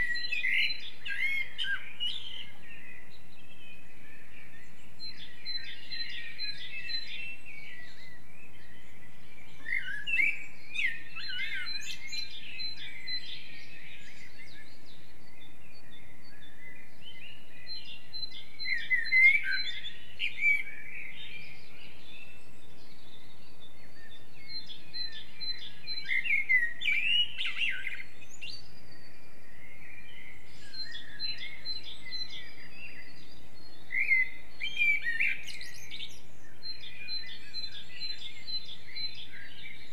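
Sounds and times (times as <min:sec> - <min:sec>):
faint background hiss: 0:00.0 - 0:39.9
songbirds warbling: 0:00.0 - 0:39.9.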